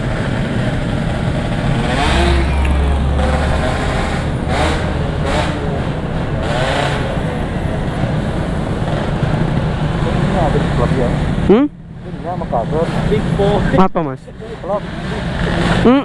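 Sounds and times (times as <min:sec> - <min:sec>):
vehicle engines revving: 0:00.0 - 0:16.0.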